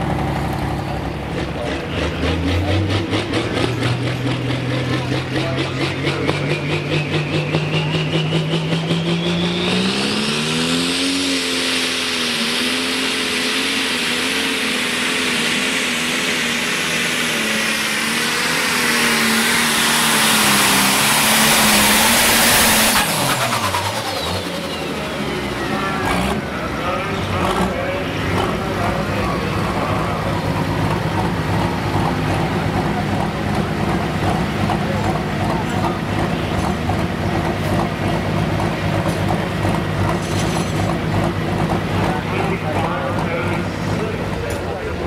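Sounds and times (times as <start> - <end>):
diesel tractor engine revving: 0.0 - 45.0.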